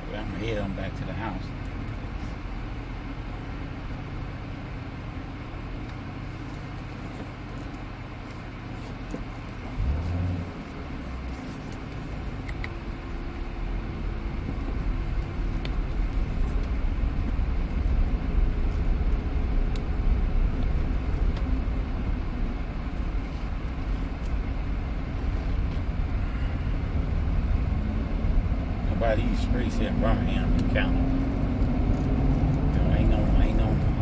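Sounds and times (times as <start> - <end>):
car engine rumbling: 0.0 - 34.0
road noise inside car: 0.0 - 34.0.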